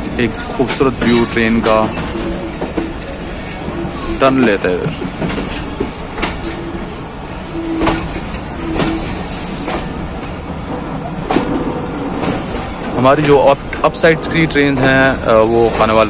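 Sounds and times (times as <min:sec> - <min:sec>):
train wheels rumbling on rail: 0:00.0 - 0:16.0
wheels clacking over rail joints: 0:00.0 - 0:16.0.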